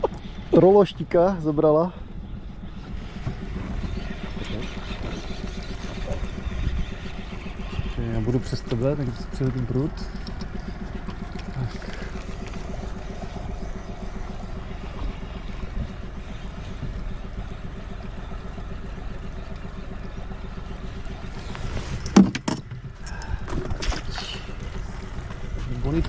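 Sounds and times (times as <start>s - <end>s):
boat motor running: 0.0s - 26.0s.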